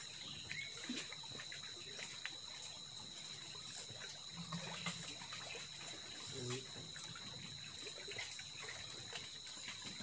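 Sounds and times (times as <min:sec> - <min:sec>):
water lapping and trickling: 0:00.0 - 0:10.0.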